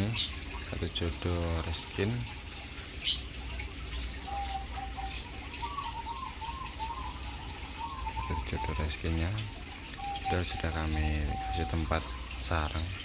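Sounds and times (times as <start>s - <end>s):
birds chirping and whistling: 0.0s - 2.2s, 2.8s - 13.0s.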